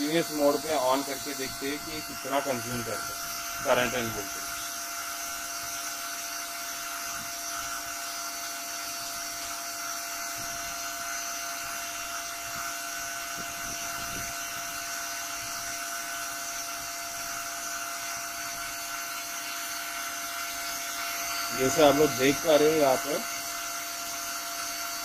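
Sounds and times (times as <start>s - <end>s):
cooling fans whining: 0.0s - 25.0s.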